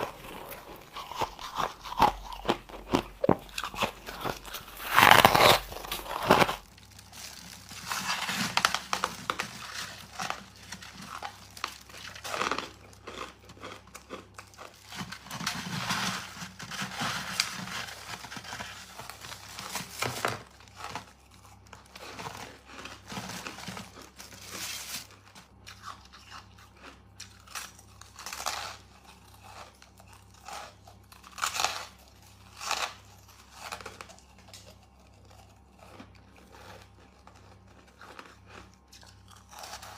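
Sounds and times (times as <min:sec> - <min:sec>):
crunching ice chewing: 0:00.0 - 0:39.9.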